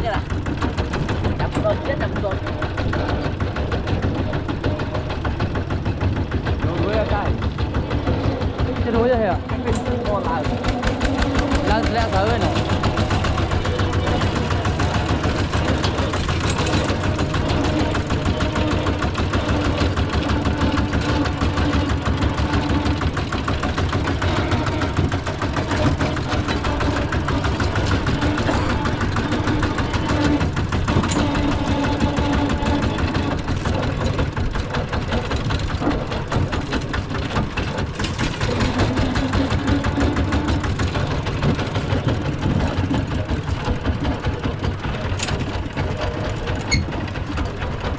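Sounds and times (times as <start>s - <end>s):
diesel engine chugging: 0.0s - 47.9s.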